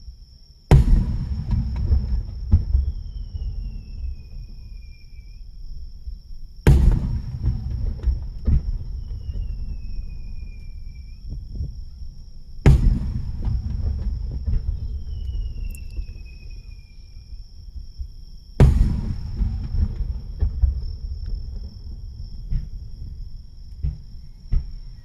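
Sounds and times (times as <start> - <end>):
insect chirring: 0.0 - 25.0
fireworks bursting: 0.7 - 11.5, 12.6 - 24.8
faint falling whistles: 0.7 - 25.0.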